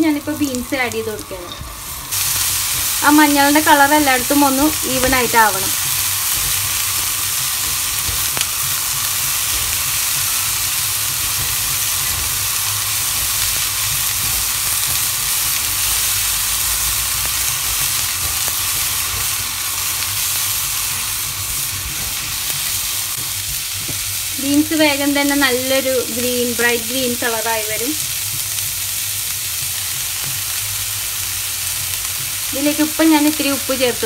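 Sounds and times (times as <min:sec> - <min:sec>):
beans sizzling in hot oil: 0:00.0 - 0:34.0.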